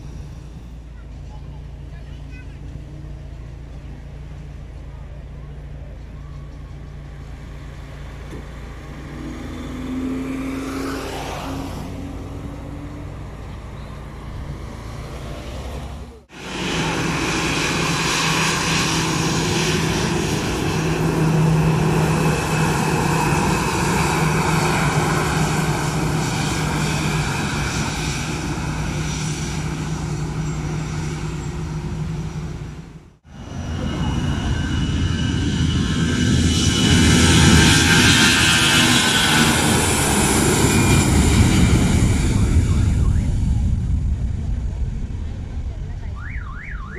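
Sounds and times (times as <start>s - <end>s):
jet engines running: 6.7s - 46.9s.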